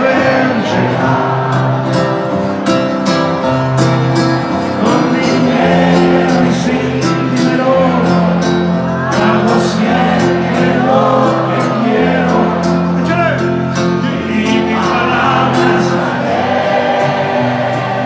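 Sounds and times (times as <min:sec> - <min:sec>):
voices singing: 0:00.0 - 0:03.3, 0:04.0 - 0:18.0
guitar strumming: 0:00.0 - 0:18.0.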